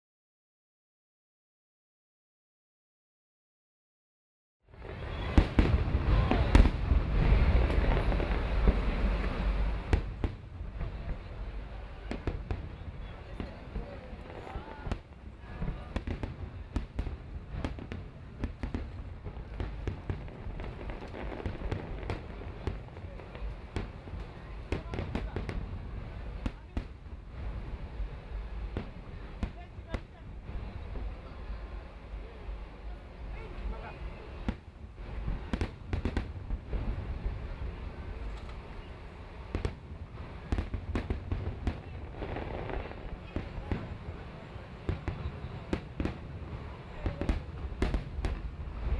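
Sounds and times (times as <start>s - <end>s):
fireworks bangs and crackles: 4.7s - 48.9s.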